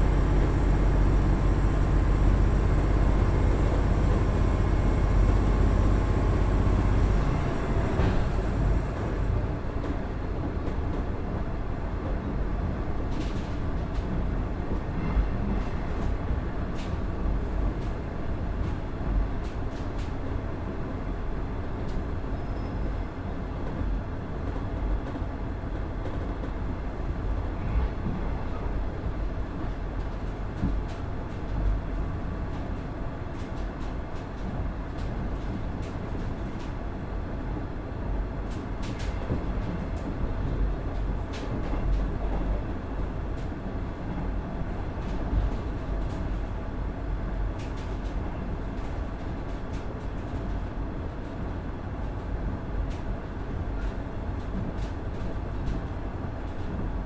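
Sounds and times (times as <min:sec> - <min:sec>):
railcar engine running: 0:00.0 - 0:57.0.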